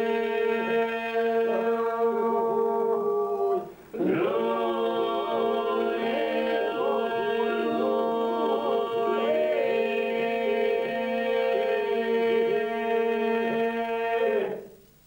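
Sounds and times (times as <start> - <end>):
men singing held drone: 0.0 - 14.7
men singing interweaving melodies: 0.0 - 14.7.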